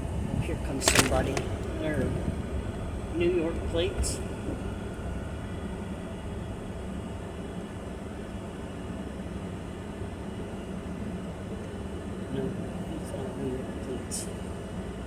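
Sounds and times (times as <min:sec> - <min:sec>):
vehicle rumbling on road: 0:00.0 - 0:15.0.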